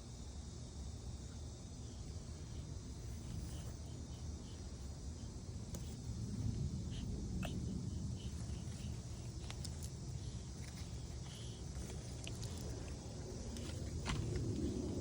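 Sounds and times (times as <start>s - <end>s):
steady low rumble: 0.7s - 15.0s.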